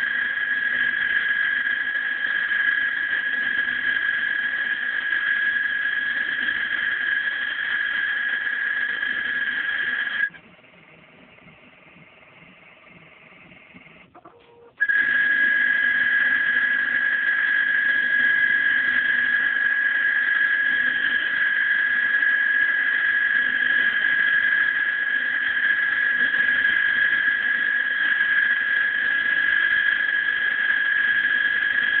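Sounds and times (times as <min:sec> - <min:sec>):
low hum: 0:00.0 - 0:32.0
vibratome high whine: 0:00.0 - 0:32.0.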